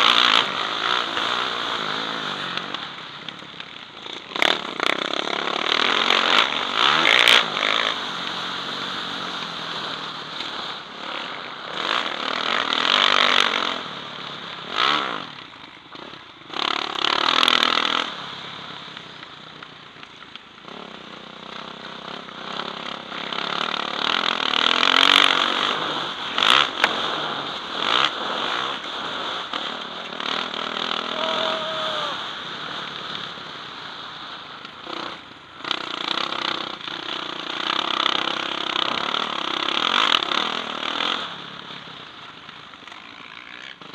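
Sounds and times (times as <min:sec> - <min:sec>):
motocross bike engine revving: 0:00.0 - 0:19.9, 0:20.5 - 0:43.9.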